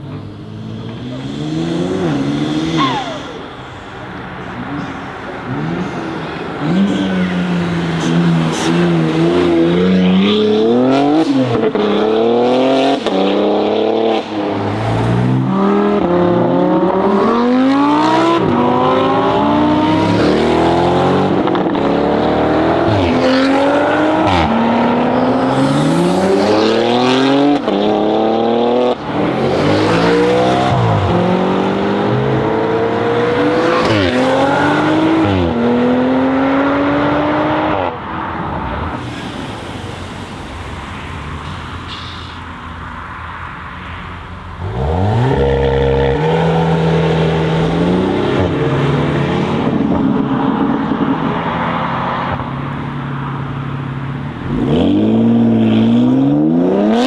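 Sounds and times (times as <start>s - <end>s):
car engine accelerating hard: 0.0s - 41.9s, 44.6s - 57.0s.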